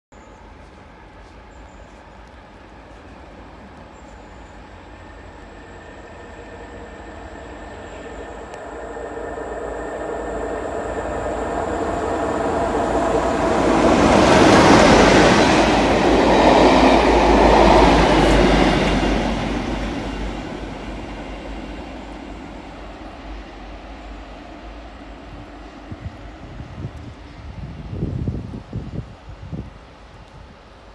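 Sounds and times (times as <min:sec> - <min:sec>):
diesel locomotive engine drone: 0:00.2 - 0:30.9
train wheels rushing on rails: 0:00.4 - 0:30.9.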